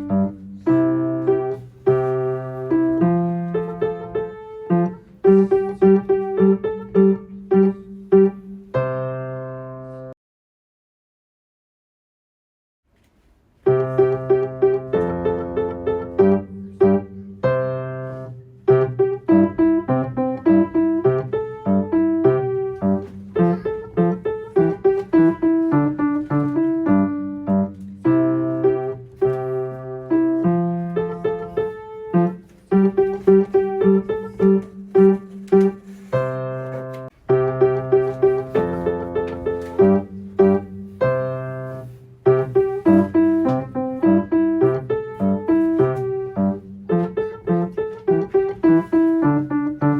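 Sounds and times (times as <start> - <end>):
solo piano playing: 0.0 - 10.2, 13.6 - 49.9.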